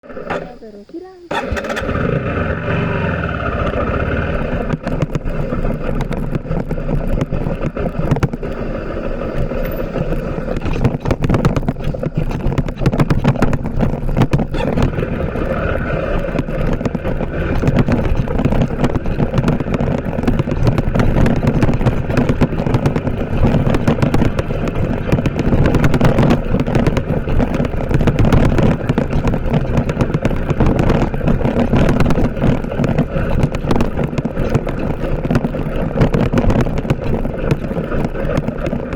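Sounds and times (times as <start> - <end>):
crackling buffeting noise: 0.0 - 38.9
motorcycle engine running: 0.0 - 38.9.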